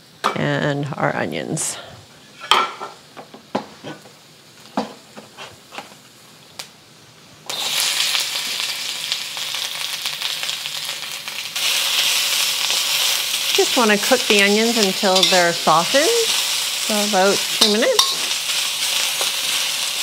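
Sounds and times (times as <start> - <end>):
onions frying in oil: 0.0 - 20.0.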